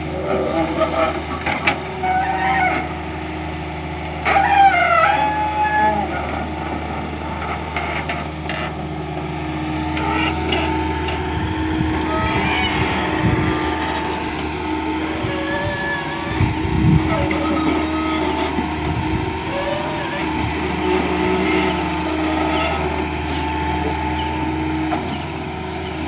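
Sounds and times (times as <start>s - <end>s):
excavator diesel engine running: 0.0s - 26.0s
hydraulics whining: 0.0s - 26.0s.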